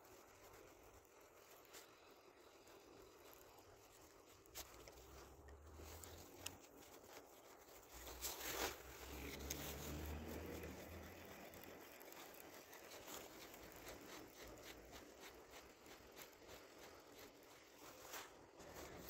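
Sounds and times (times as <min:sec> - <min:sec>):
jacket rustling against microphone: 0:00.0 - 0:19.0.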